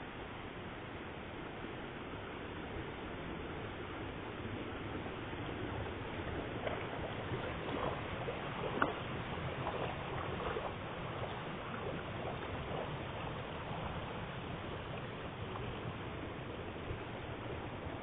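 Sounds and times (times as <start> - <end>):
water running through channels: 0.0 - 18.0.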